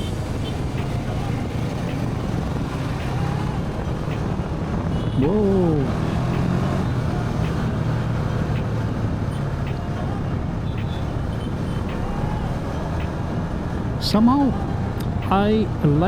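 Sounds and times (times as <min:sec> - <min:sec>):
motorcycle engine cruising: 0:00.0 - 0:14.0
wind and road noise: 0:00.0 - 0:16.0.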